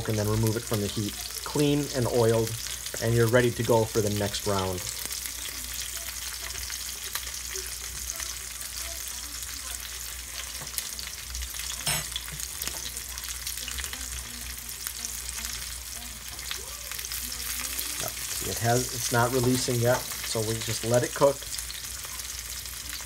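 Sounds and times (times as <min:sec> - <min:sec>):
steak sizzling in skillet: 0:00.0 - 0:23.0.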